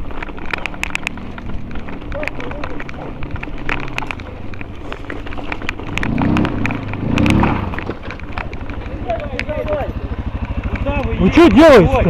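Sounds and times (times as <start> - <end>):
bike rattling clicks: 0.0 - 12.0
tyres crunching over stones: 0.0 - 12.0.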